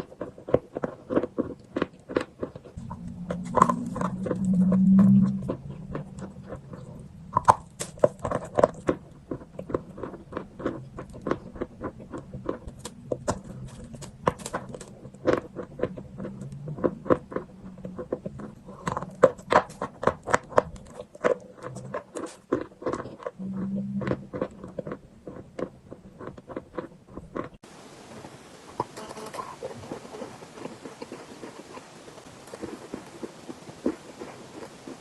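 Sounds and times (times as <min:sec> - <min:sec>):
chewing chalk crunches: 0:00.0 - 0:27.6, 0:28.8 - 0:35.0.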